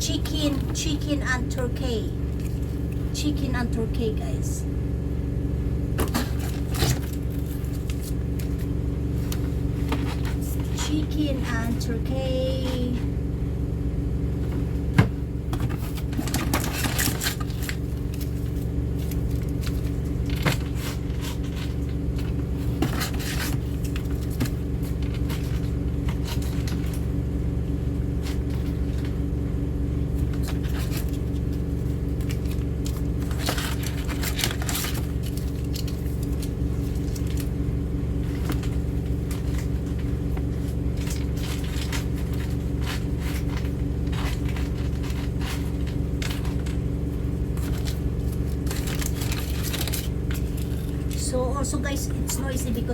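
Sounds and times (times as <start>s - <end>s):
washing machine running: 0.0s - 52.9s
cat food packets rustling: 2.2s - 3.2s, 6.0s - 13.0s, 14.3s - 52.9s.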